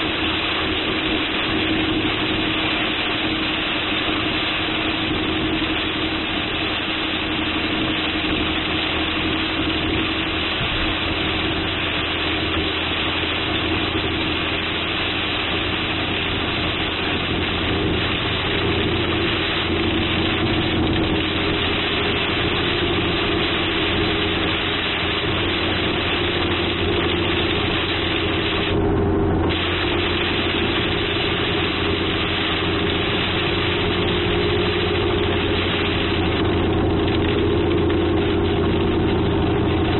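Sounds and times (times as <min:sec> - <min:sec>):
car engine idling: 0:00.0 - 0:39.9
heavy rain on a car: 0:00.0 - 0:39.9.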